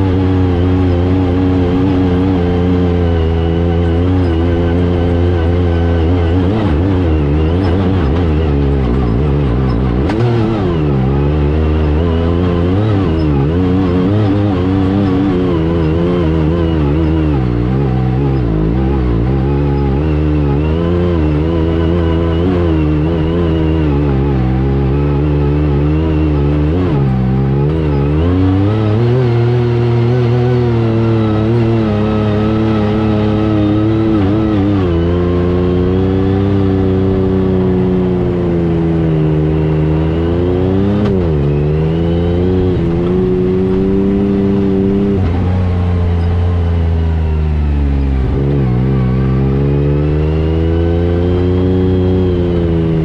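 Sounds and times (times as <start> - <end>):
engine revving under load: 0.0 - 53.0.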